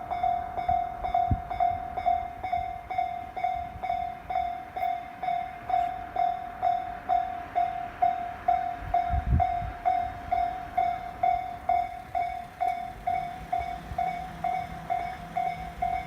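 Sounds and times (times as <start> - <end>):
level-crossing warning bell ringing: 0.0 - 16.0.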